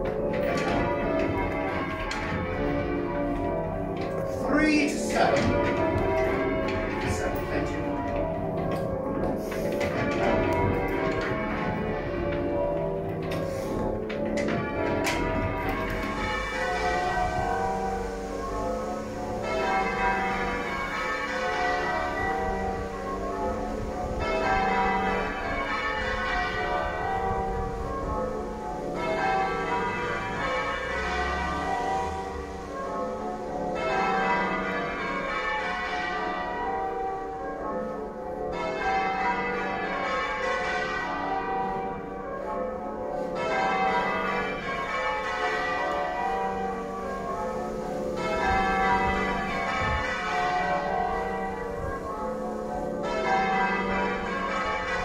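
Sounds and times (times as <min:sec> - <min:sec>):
half-muffled church bells ringing: 0:00.0 - 0:55.0.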